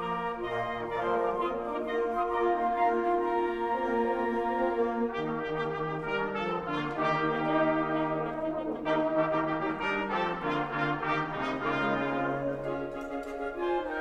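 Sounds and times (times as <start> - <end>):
brass sustained chords: 0.0 - 14.0.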